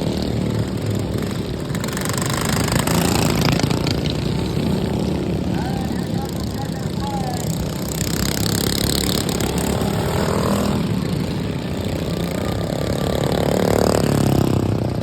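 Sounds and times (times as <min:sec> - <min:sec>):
racing lawnmower engines: 0:00.0 - 0:15.0.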